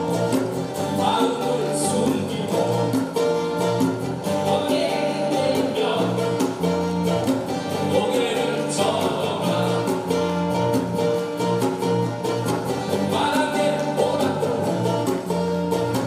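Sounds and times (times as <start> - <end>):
voices singing: 0.0 - 10.9, 12.7 - 15.5
djembe drum beat: 0.0 - 16.0
electric bass: 0.0 - 16.0
strummed acoustic guitars: 0.0 - 16.0.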